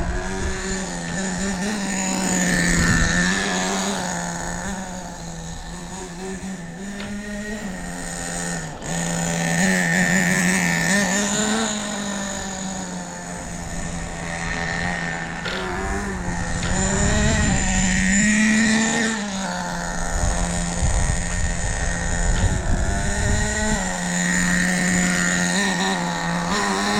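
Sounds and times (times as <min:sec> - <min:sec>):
nitro engine revving: 0:00.0 - 0:26.9.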